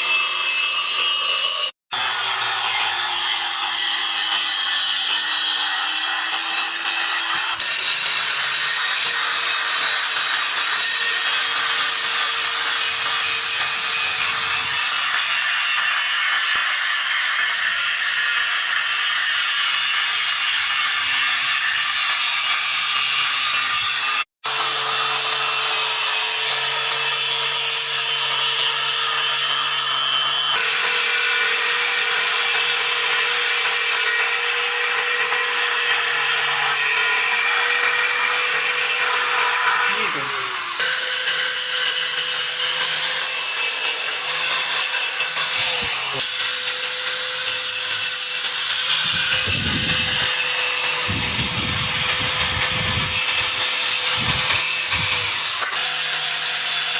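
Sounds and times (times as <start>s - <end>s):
electric grinder grinding steel: 0.0s - 56.9s
grinder motor hum: 0.0s - 56.9s.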